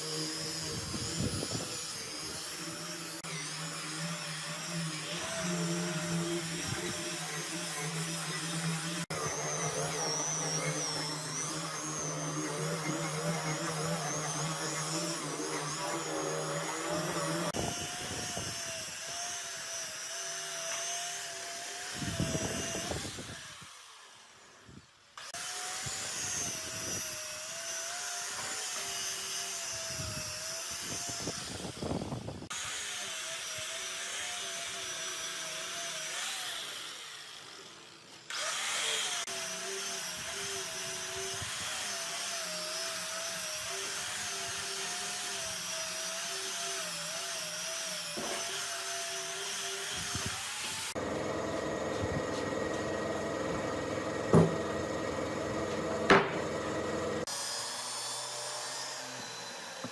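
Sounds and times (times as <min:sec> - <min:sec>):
electric power tool on wood: 0:00.0 - 0:59.9.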